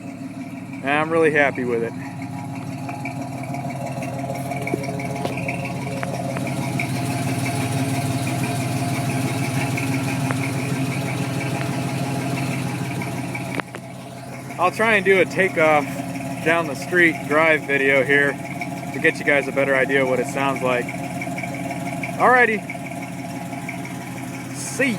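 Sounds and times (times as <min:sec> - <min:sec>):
engine idling through dual exhaust: 0:00.0 - 0:24.9.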